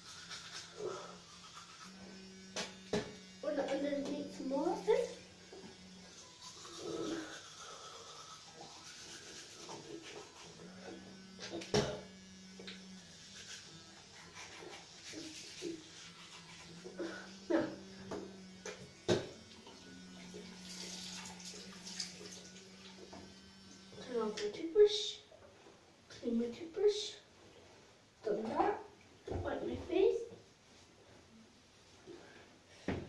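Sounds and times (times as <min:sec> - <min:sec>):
electric toothbrush buzzing: 0:00.0 - 0:27.3, 0:28.2 - 0:30.4.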